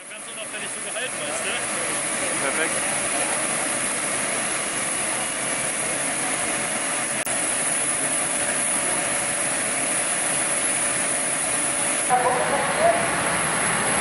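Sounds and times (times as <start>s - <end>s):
fire engine engine running: 0.0s - 14.0s.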